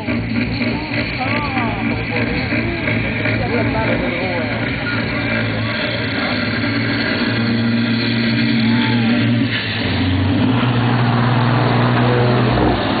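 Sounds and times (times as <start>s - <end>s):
truck diesel engines accelerating: 0.0s - 13.0s.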